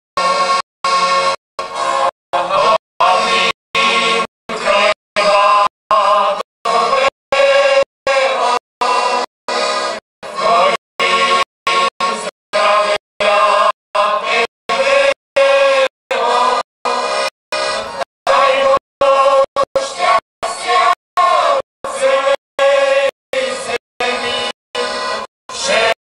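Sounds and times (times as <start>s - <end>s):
folk chorus singing: 1.7s - 26.0s.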